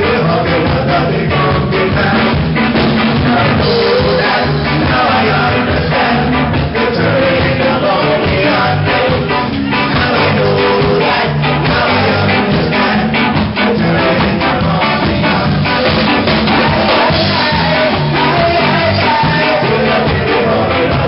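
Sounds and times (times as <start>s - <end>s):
live ska band playing: 0.0s - 21.0s
man singing into microphone: 0.0s - 21.0s.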